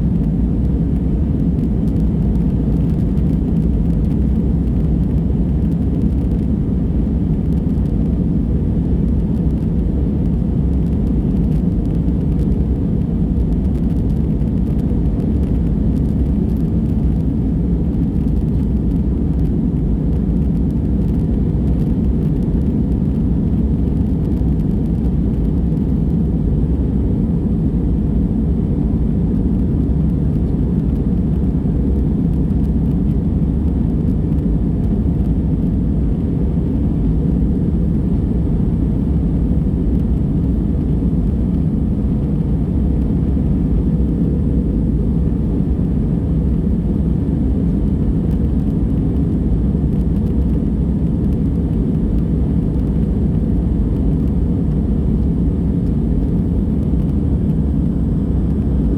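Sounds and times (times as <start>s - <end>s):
aircraft cabin engine rumble: 0.0s - 58.9s.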